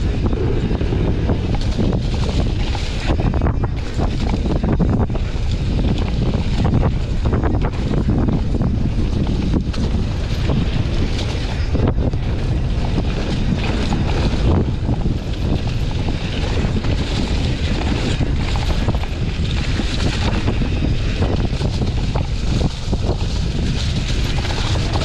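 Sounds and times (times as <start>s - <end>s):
bike rattling over dirt trail: 0.0s - 25.0s
wind buffeting microphone: 0.0s - 25.0s.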